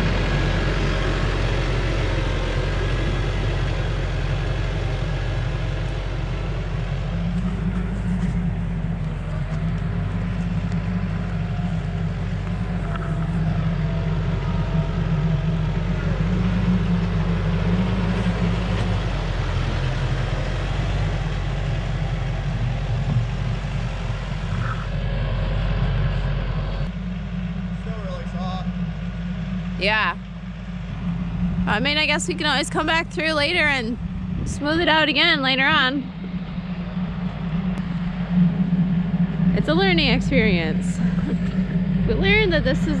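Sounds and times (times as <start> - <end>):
heavy vehicle engine running: 0.0 - 43.0.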